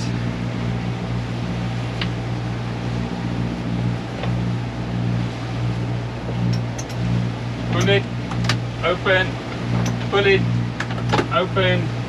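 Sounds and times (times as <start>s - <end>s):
diesel engines humming: 0.0s - 12.0s.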